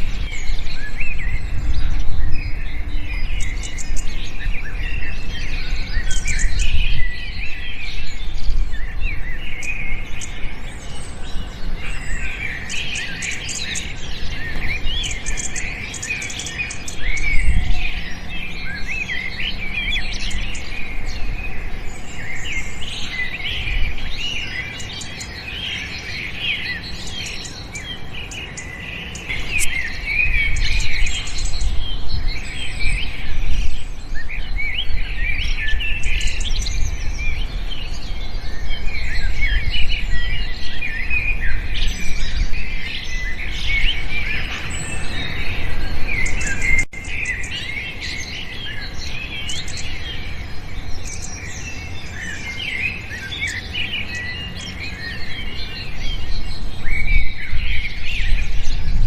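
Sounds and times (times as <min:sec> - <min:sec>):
low rumbling noise: 0:00.0 - 0:59.0
small birds chirping: 0:00.0 - 0:59.0.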